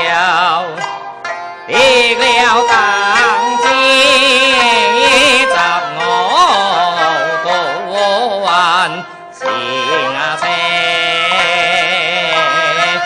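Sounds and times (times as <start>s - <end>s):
man singing opera: 0.0s - 0.9s, 1.7s - 13.0s
traditional instrumental accompaniment: 0.0s - 13.0s.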